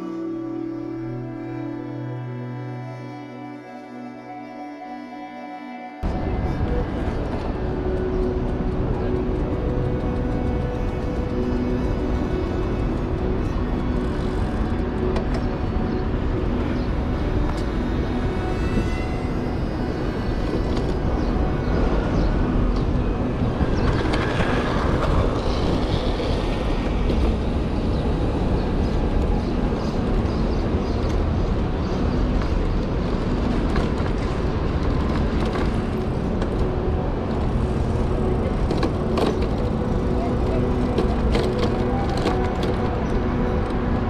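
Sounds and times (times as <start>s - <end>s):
street traffic: 6.0s - 44.0s
wind on microphone: 6.0s - 44.0s.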